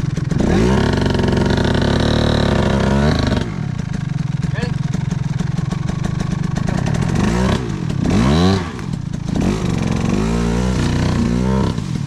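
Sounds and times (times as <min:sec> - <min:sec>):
dirt bike engine idling and revving: 0:00.0 - 0:12.0.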